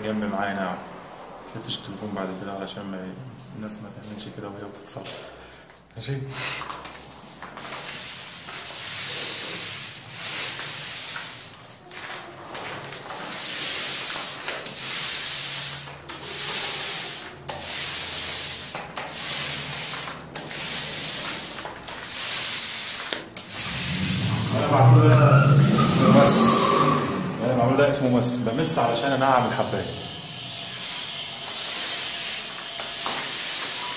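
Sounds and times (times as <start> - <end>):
paint roller rasping on wall: 6.4 - 33.9.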